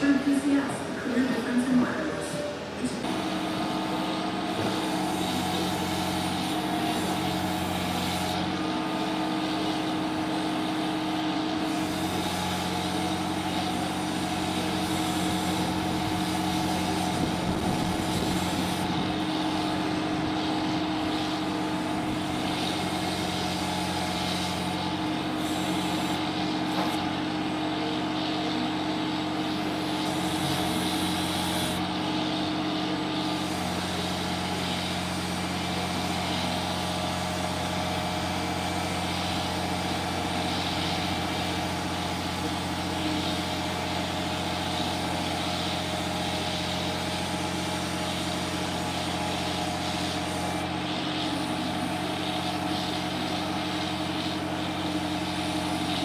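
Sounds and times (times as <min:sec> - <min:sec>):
motor running steadily: 0:00.0 - 0:56.0.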